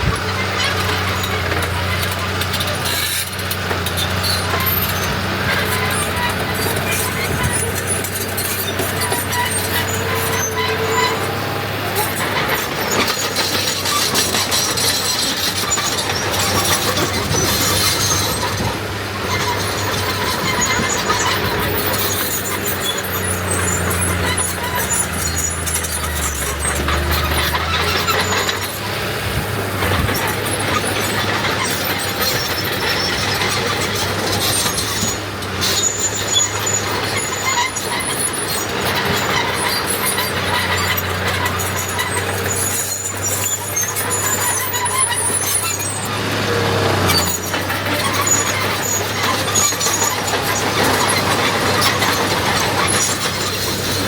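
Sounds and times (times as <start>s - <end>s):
low diesel engine drone: 0.0s - 54.0s
metallic squeals and clanks: 0.0s - 54.0s.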